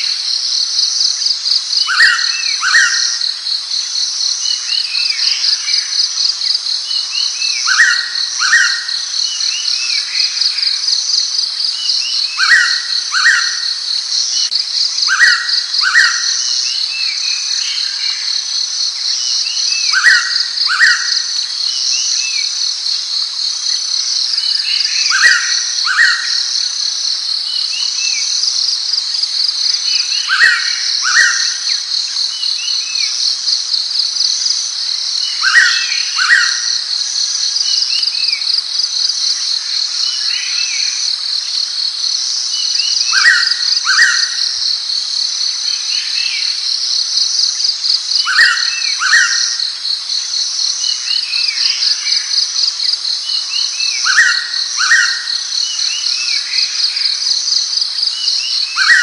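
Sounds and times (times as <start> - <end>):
high-pitched insect trill: 0.0 - 59.0.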